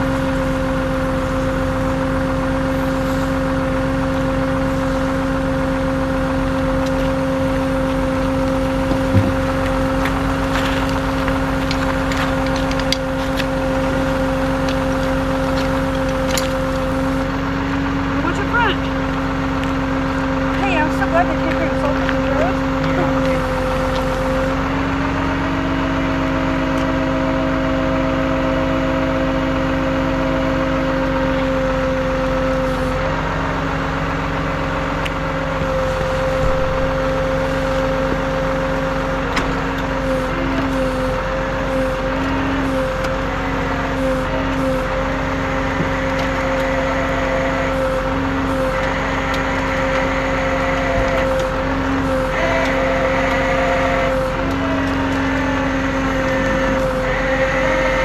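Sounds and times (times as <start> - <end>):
vehicle engine running steadily: 0.0 - 58.0.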